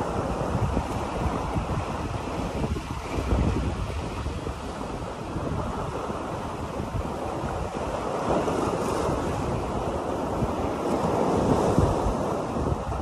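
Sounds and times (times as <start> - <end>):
sea surf washing over rocks: 0.0 - 13.0
wind buffeting microphone: 0.0 - 13.0.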